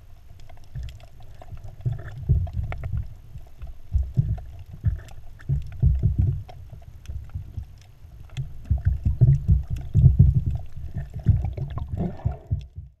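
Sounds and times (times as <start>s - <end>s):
underwater water rumbling: 0.0s - 13.0s
faint clicks: 0.2s - 11.7s.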